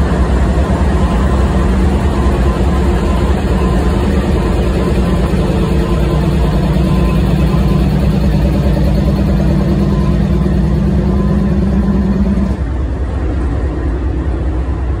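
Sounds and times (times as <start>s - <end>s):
low hum: 0.0s - 15.0s
train wheels rumbling on rail: 0.0s - 15.0s.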